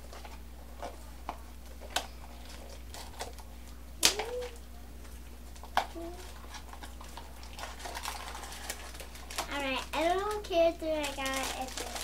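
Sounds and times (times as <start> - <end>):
plastic shrink-wrap crinkling: 1.6 - 12.0.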